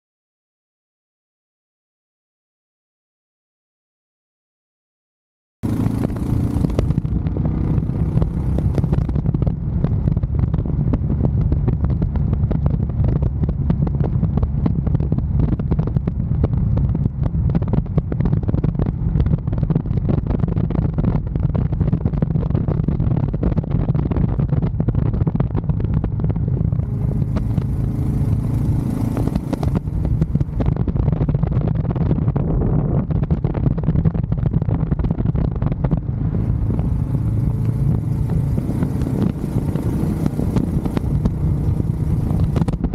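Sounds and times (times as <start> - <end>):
motorcycle engine running: 5.6 - 42.9.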